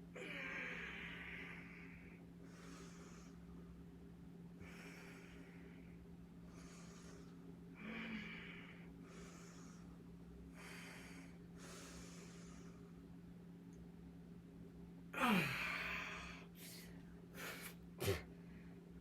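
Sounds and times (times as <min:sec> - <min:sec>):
steady low hum: 0:00.0 - 0:19.0
woman breathing hard: 0:00.2 - 0:03.8, 0:04.6 - 0:13.0, 0:15.2 - 0:18.8.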